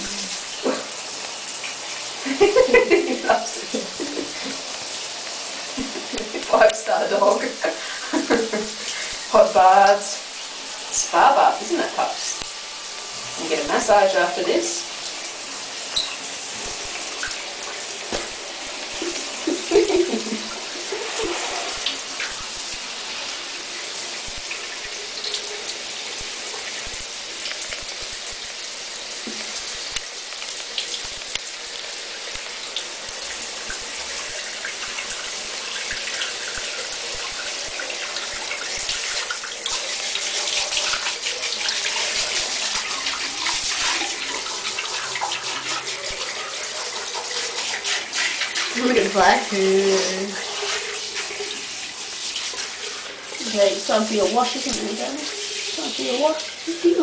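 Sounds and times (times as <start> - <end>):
shower water spraying: 0.0 - 57.0.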